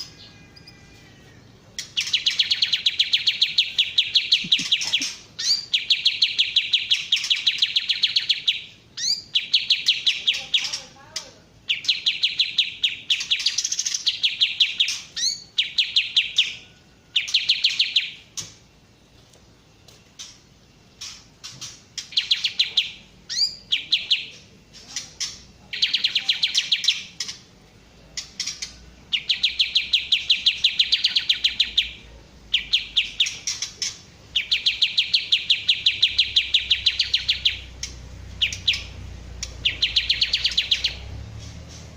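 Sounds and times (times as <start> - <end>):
songbird chattering: 0.0 - 41.9.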